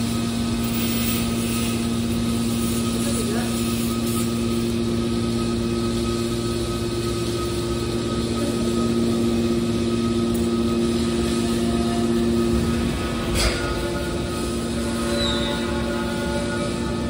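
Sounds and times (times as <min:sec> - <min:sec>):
motor and pump humming: 0:00.0 - 0:17.0
steady whining tones: 0:00.0 - 0:17.0.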